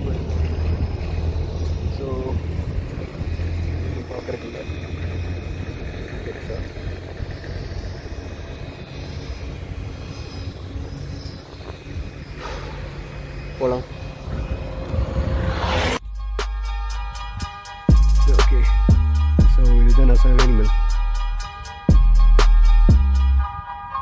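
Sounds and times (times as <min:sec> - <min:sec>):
motorcycle engine drone: 0:00.0 - 0:23.0.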